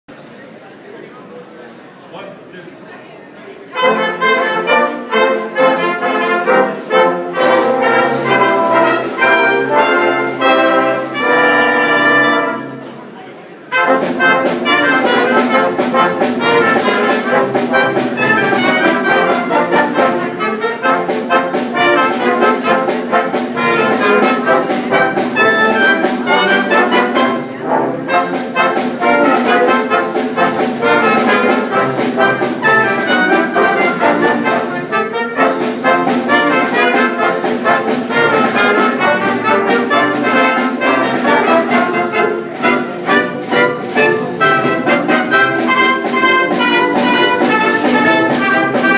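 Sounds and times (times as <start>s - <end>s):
brass band playing: 3.6s - 48.9s.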